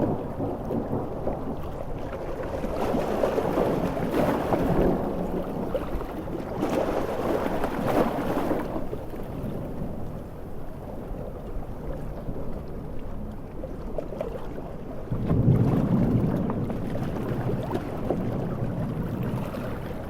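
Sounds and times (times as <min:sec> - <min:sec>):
sea waves breaking on shore: 0:00.0 - 0:20.0.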